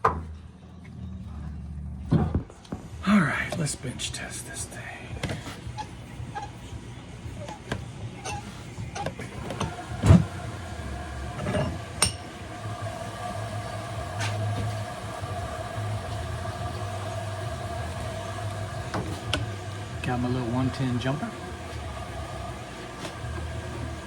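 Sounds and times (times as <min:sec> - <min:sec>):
steady hum: 0:00.7 - 0:24.0.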